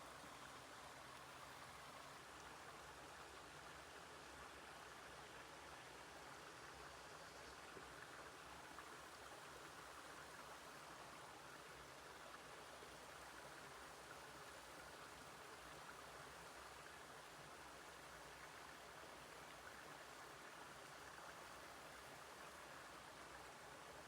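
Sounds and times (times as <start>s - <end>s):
faint outdoor ambience hiss: 0.0s - 24.0s.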